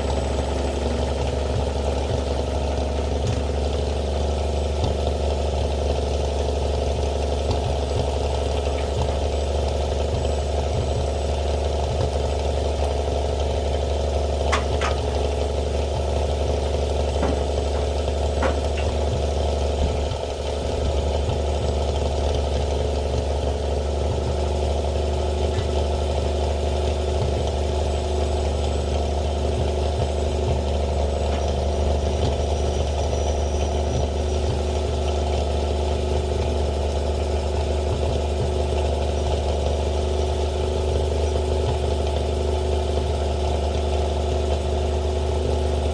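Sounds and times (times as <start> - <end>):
truck engine idling: 0.0 - 45.9.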